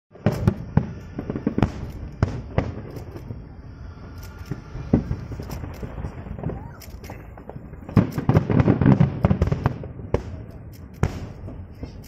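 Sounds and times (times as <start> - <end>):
fireworks bangs: 0.1 - 12.0
low rumble: 0.5 - 12.0.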